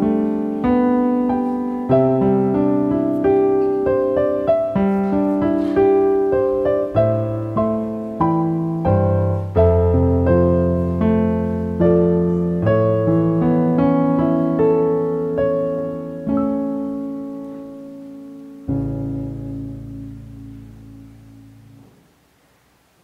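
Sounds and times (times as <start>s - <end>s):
piano playing slow chords: 0.0s - 22.6s.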